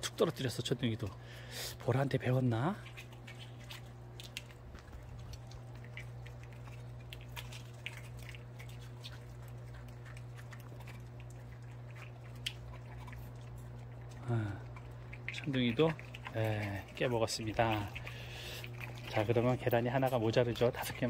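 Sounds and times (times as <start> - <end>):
dogs chewing and licking eggshells: 0.0 - 21.0
low hum: 0.0 - 21.0.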